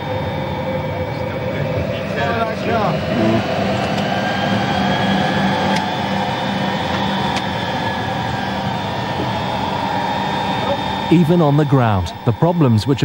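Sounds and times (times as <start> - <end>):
jet engines droning: 0.0 - 13.0.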